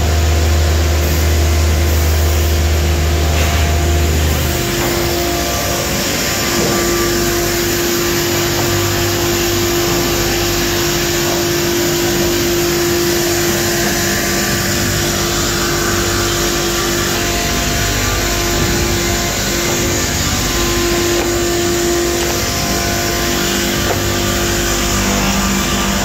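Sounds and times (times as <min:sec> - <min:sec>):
saw whine: 0:00.0 - 0:26.0.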